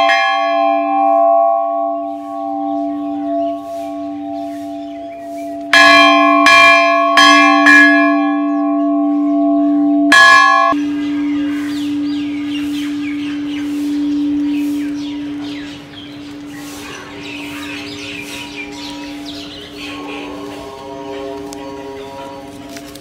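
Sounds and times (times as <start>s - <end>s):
temple bell ringing: 0.0s - 23.0s.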